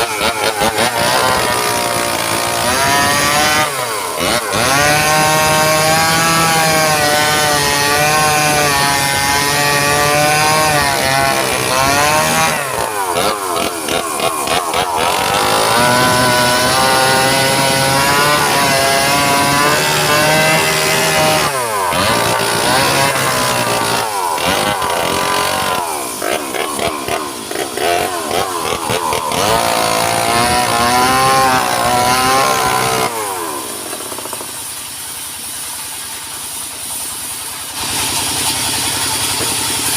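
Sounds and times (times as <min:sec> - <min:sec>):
engine-driven saw cutting wood: 0:00.0 - 0:39.9.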